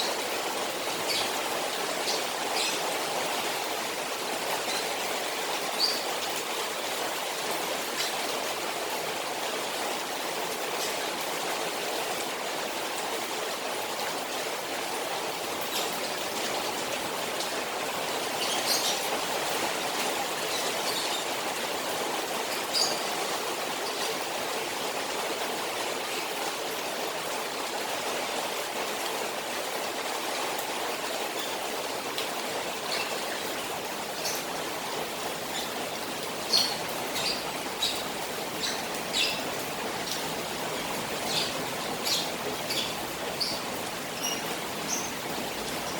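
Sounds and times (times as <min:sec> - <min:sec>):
rain falling on a pond: 0:00.0 - 0:45.9.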